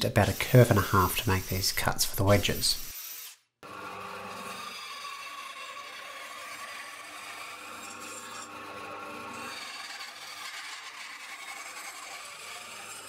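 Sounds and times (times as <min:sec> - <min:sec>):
bandsaw cutting wood: 0:00.0 - 0:13.0.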